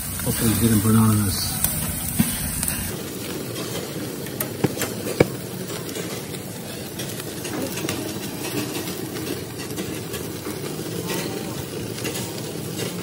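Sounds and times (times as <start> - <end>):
grill flame rushing and crackling: 0.0 - 13.0.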